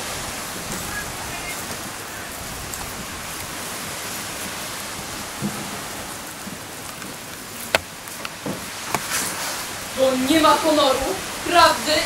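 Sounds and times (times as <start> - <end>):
open-air background hiss: 0.0 - 12.0.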